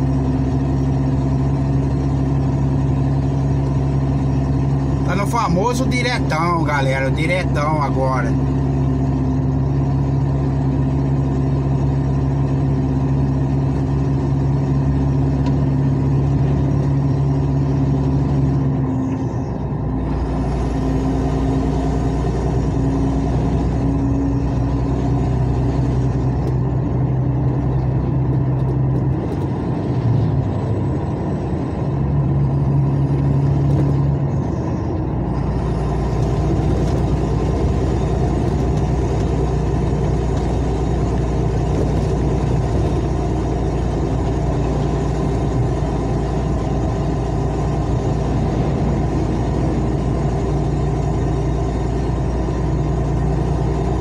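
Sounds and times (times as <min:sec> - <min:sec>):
unmuffled car engine drone: 0:00.0 - 0:54.0.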